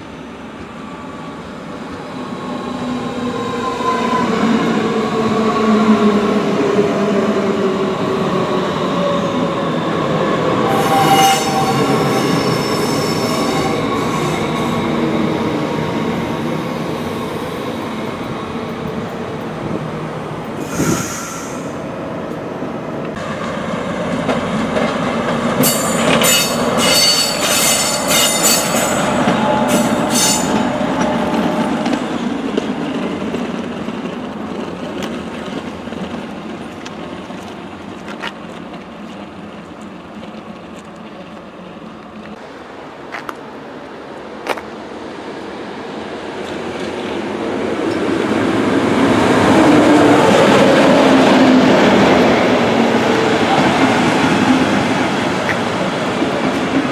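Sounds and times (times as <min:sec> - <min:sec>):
electric train rumbling past: 0:00.0 - 0:56.9.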